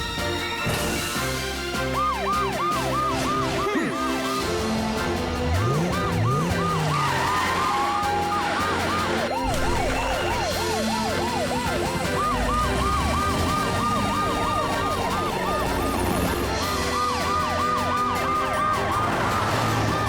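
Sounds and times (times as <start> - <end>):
cartoon sirens sweeping: 0.6 - 20.0.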